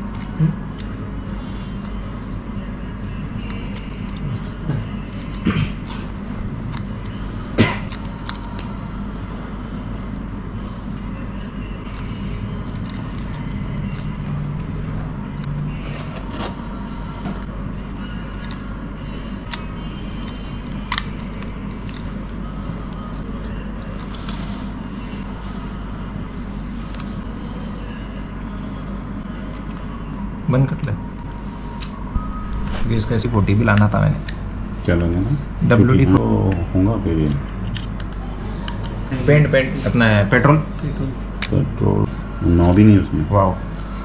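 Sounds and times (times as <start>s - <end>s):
low background hum: 0.0s - 44.0s.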